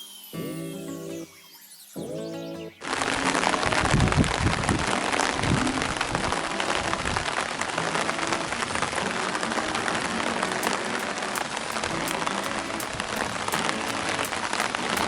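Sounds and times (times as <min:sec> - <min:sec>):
heavy rain falling: 0:02.8 - 0:15.0.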